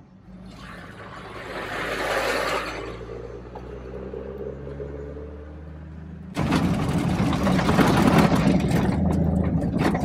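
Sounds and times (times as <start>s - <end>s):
tyres on gravel road: 0.0s - 10.0s.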